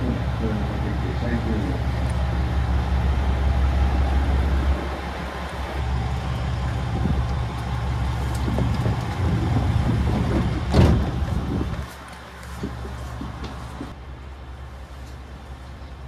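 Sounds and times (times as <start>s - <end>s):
train equipment humming: 0.0s - 16.0s.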